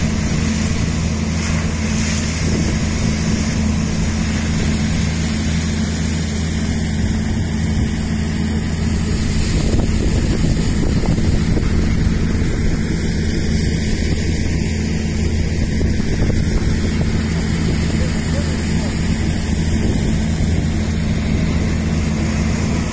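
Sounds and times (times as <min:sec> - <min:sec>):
engine running steadily: 0:00.0 - 0:22.9.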